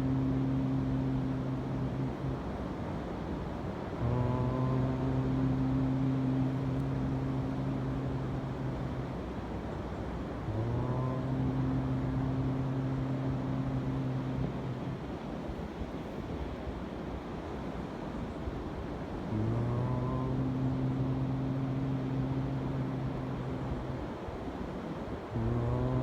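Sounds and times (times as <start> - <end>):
low voice chanting long tones: 0.0 - 26.0
wind: 0.0 - 26.0.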